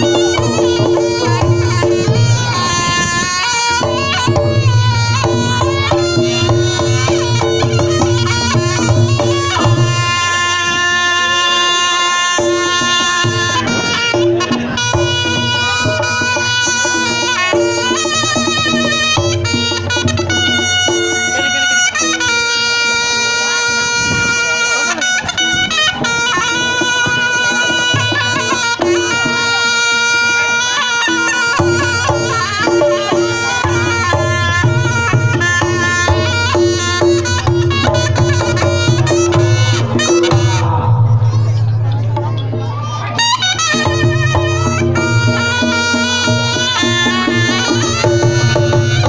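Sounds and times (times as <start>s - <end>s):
drum strokes: 0.0s - 23.2s, 25.0s - 49.0s
quick percussion pulse: 0.0s - 49.0s
shrill reed shawm note: 0.0s - 49.0s.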